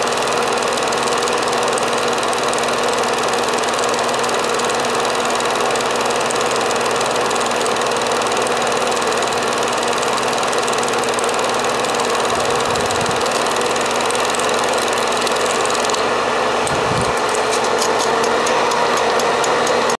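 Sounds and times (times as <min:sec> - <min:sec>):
film projector whirr and clatter: 0:00.0 - 0:20.0
rapid ticking: 0:00.0 - 0:20.0.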